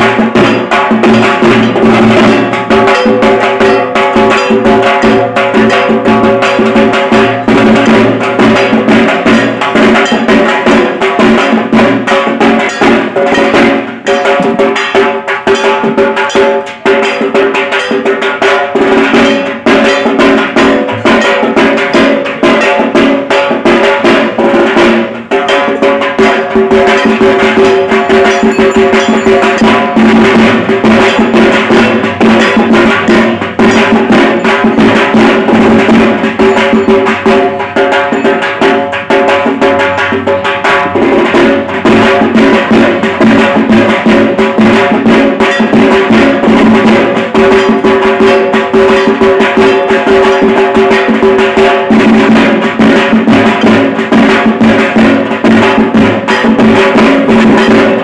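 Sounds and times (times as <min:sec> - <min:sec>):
barrel drum beaten with sticks: 0:00.0 - 0:58.0.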